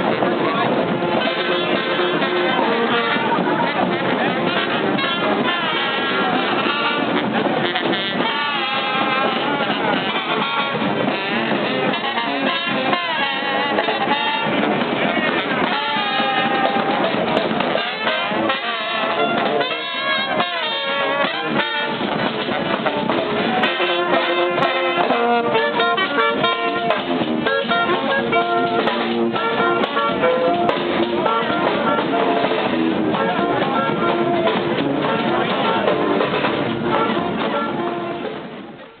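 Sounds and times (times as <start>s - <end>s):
brass band playing: 0.0s - 39.0s
drums: 0.0s - 39.0s.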